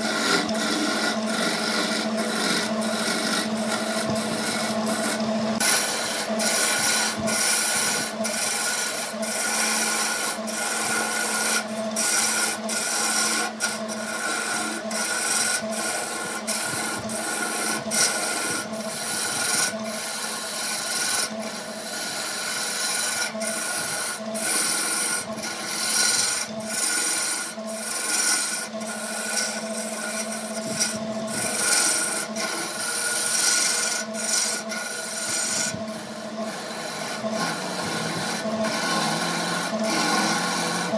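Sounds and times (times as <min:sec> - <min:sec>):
turning tool scraping wood: 0:00.0 - 0:40.9
wood lathe motor hum: 0:00.0 - 0:40.9.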